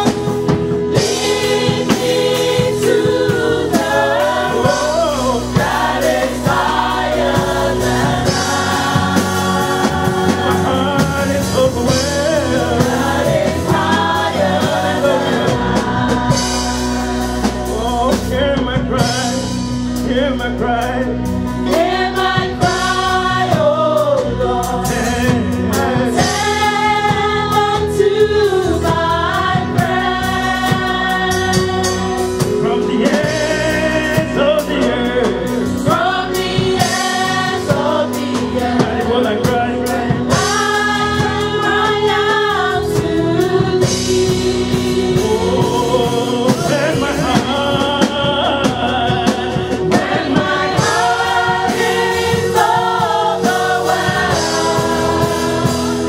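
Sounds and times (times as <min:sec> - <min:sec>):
band with drums: 0:00.0 - 0:56.0
gospel choir singing: 0:00.0 - 0:56.0.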